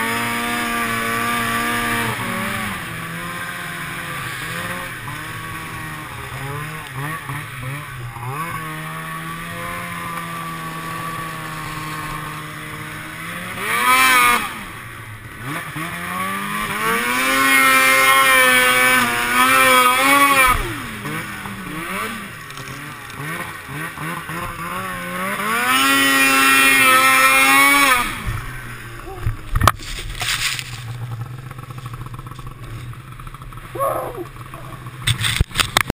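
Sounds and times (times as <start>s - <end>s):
snowmobile engine revving: 0.0s - 35.9s.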